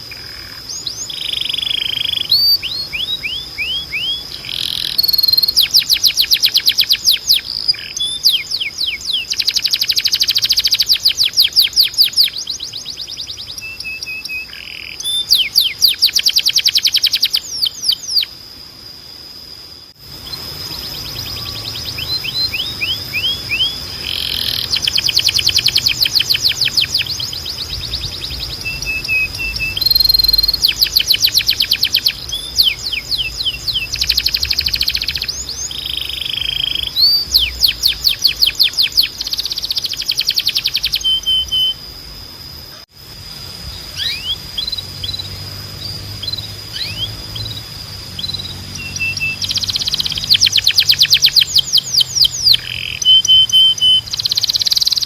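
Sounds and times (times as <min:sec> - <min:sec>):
canary singing trills: 0:00.0 - 0:18.4, 0:20.0 - 0:42.8, 0:43.7 - 0:55.0.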